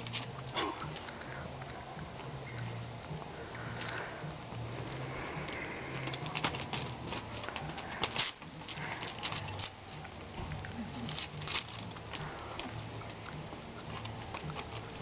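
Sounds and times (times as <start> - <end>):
faint low rumble: 0.0 - 15.0
hooves and paws scuffling on concrete: 0.0 - 15.0.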